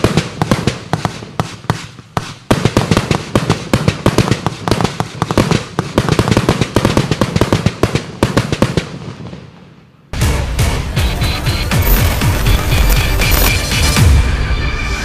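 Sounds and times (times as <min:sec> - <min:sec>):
fireworks volley with crackling: 0:00.0 - 0:14.4.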